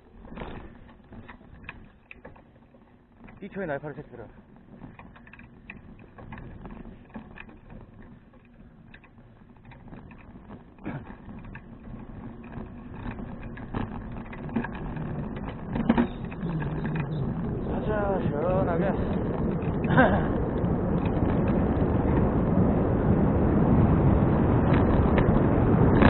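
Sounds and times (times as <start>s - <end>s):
bicycle clicks and rattles: 0.0s - 26.0s
bicycle rolling noise: 0.0s - 26.0s
wind rumbling: 0.0s - 26.0s.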